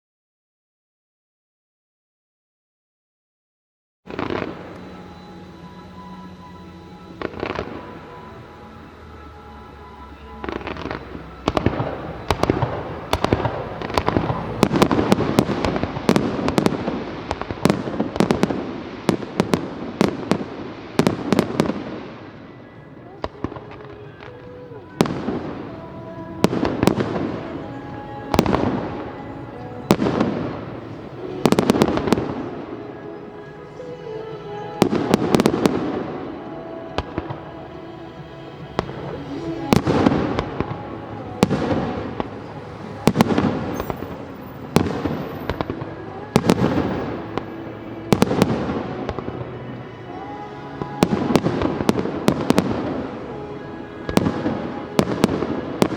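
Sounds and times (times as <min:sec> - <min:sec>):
fireworks bursting and crackling: 0:04.1 - 0:55.9
music: 0:04.1 - 0:55.9.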